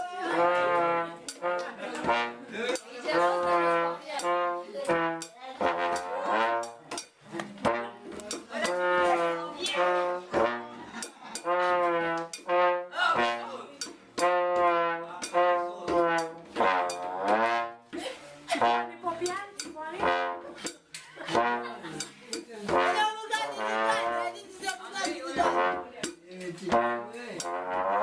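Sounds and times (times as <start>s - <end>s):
trombone-like brass melody: 0.0s - 2.5s, 3.1s - 6.9s, 7.6s - 19.1s, 20.0s - 22.0s, 22.7s - 24.6s, 25.4s - 25.9s, 26.8s - 28.0s.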